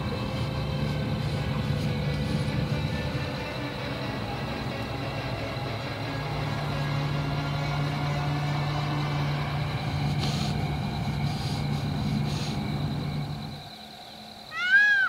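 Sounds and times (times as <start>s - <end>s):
vehicle engine idling: 0.0s - 14.5s.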